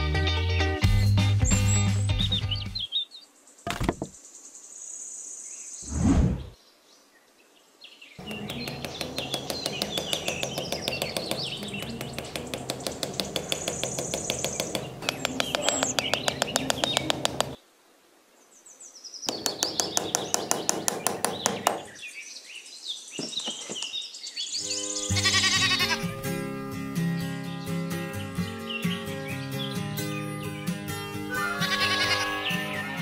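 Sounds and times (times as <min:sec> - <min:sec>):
birds chirping: 0:01.4 - 0:17.6, 0:18.4 - 0:33.0.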